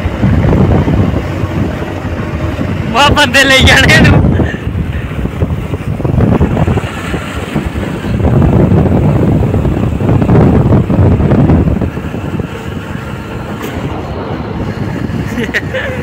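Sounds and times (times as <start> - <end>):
motorcycle engine at speed: 0.0 - 3.0, 4.3 - 16.0
road noise: 0.0 - 16.0
wind buffeting on microphone: 0.0 - 16.0.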